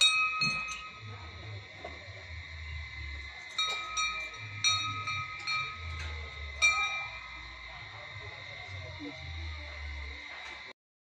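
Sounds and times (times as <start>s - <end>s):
metal bells ringing: 0.0s - 10.0s
steady low rumble: 0.0s - 10.7s.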